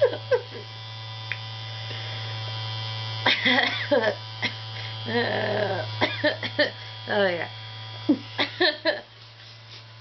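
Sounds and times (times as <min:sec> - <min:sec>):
small electric device buzzing: 0:00.0 - 0:10.0.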